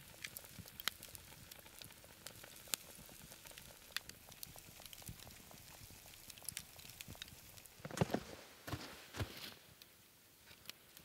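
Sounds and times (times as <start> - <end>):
campfire embers crackling: 0.0 - 11.0
fire popping: 0.0 - 11.0
low hiss: 0.0 - 11.0.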